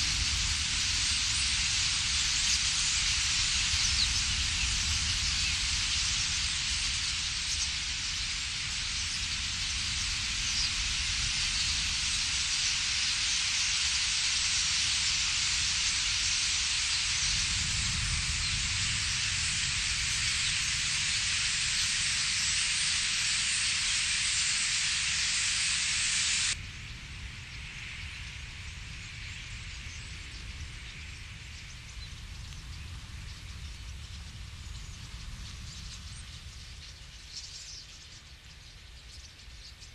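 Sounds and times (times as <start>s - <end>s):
starling flock hissing din: 0.0s - 26.6s, 27.7s - 39.9s
low wind rumble: 0.0s - 39.9s.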